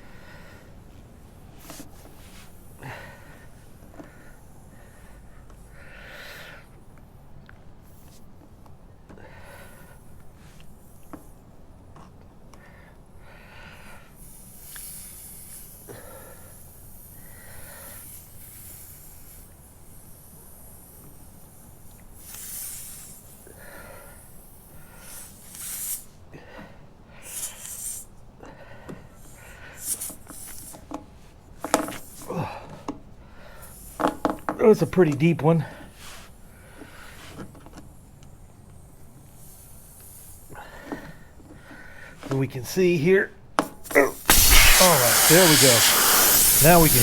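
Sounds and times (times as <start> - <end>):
man breathing hard through nose: 0.0 - 7.0, 9.1 - 11.4, 12.6 - 30.9, 31.7 - 34.2, 35.7 - 42.3, 44.2 - 47.0.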